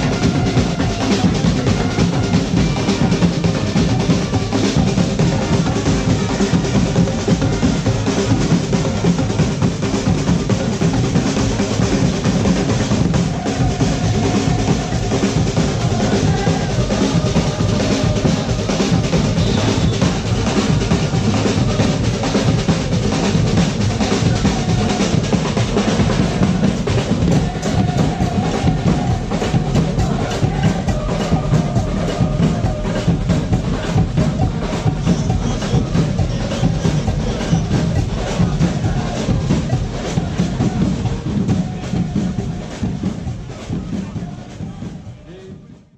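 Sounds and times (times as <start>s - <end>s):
drum percussion music: 0.0s - 45.9s.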